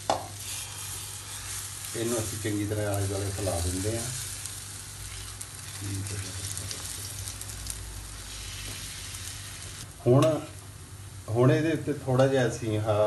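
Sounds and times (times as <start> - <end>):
batter sizzling in hot oil: 0.0 - 12.1.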